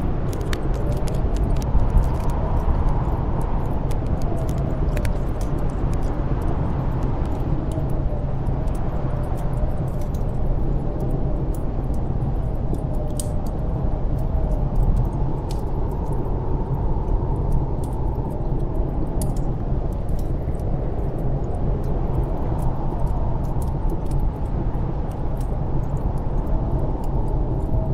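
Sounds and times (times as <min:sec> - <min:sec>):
storm wind blowing: 0:00.0 - 0:27.9
wood fire crackling: 0:00.0 - 0:27.9.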